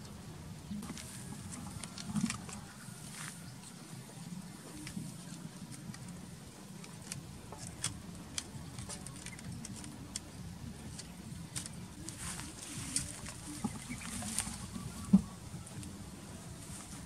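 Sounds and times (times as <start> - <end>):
steady low hum: 0.0 - 17.0
raw duck being handled: 0.8 - 17.0.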